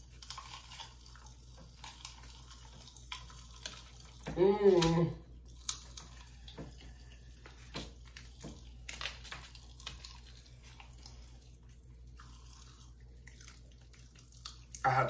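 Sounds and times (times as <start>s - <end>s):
candy crunching: 0.0s - 15.0s
popping candy crackling: 0.0s - 15.0s.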